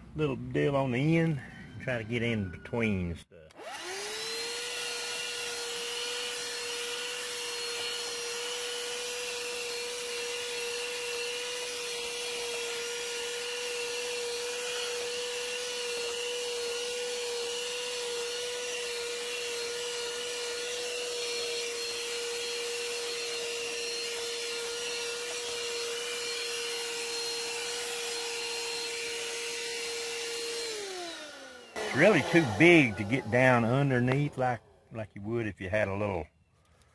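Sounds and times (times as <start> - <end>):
handheld vacuum motor whine: 3.5 - 34.5.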